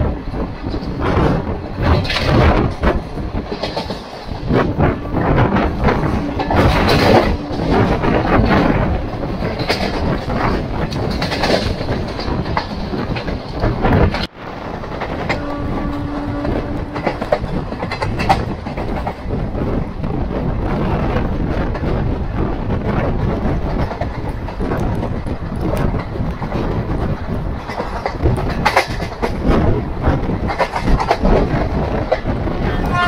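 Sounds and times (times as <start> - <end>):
train running rush: 0.0 - 33.0
train wheels clattering over rails: 0.0 - 33.0.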